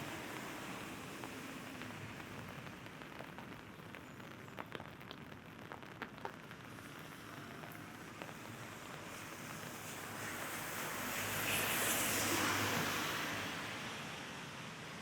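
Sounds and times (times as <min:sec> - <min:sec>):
raindrops ticking on an umbrella: 0:00.0 - 0:14.9
steady rain falling: 0:00.0 - 0:15.0.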